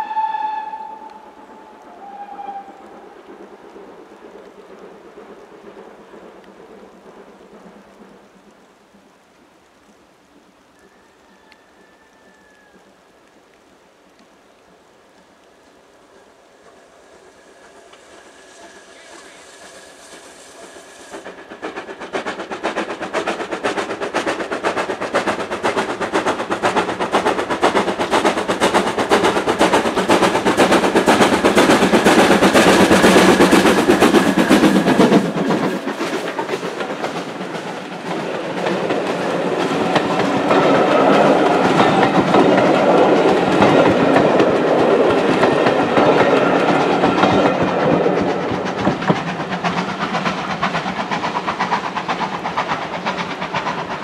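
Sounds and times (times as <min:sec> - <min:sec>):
steam locomotive exhaust beats: 0:00.0 - 0:10.9, 0:16.0 - 0:54.0.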